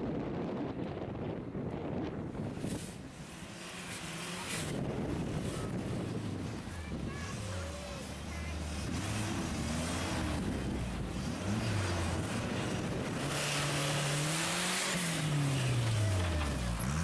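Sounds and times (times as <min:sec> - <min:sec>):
buggy engine revving: 0:02.7 - 0:17.0.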